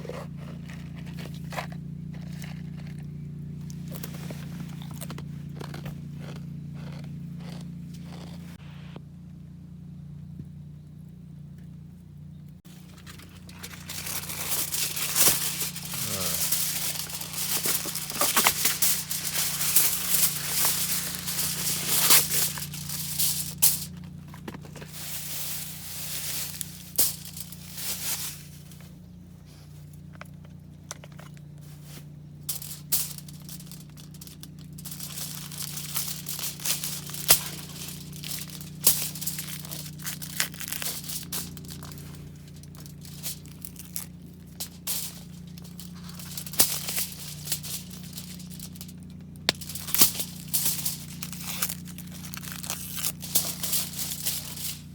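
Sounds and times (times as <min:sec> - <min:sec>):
wrapping crinkling and rustling: 0:00.0 - 0:08.4, 0:12.7 - 0:54.9
steady low hum: 0:00.0 - 0:54.9.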